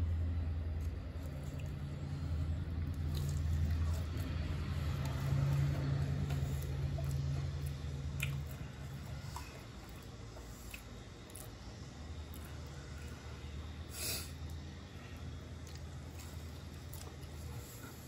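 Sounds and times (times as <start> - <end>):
steady low hum: 0.0 - 18.0
wet squishy chewing: 0.6 - 13.3, 15.2 - 18.0.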